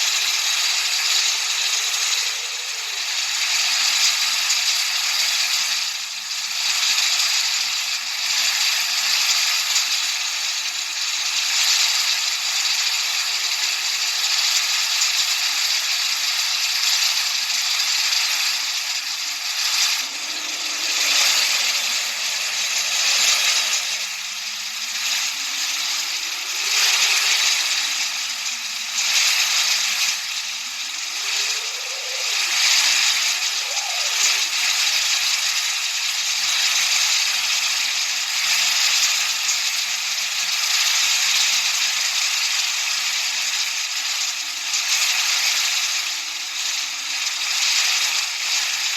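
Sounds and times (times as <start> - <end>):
hissing masking noise: 0.0 - 48.9.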